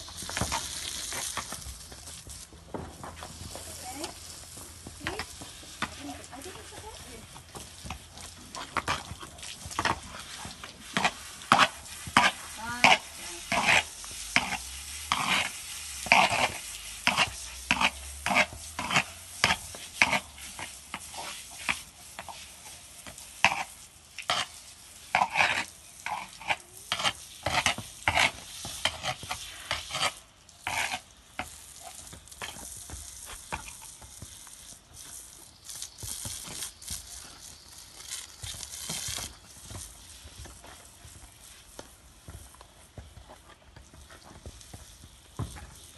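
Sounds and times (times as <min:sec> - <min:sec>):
water spraying from a hose: 0:00.0 - 0:45.9.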